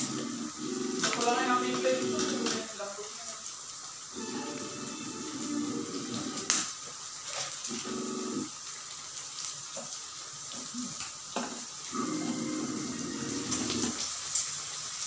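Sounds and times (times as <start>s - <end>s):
meat sizzling on grill: 0.0s - 15.0s.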